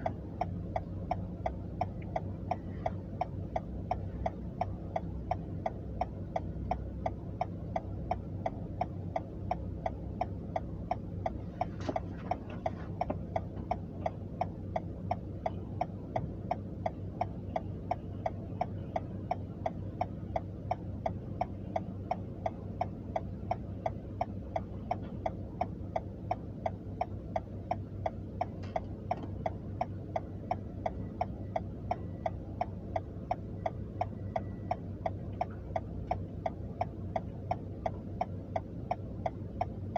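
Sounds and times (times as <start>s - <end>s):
car indicator ticking: 0.0s - 39.9s
idling engine hum: 0.0s - 39.9s.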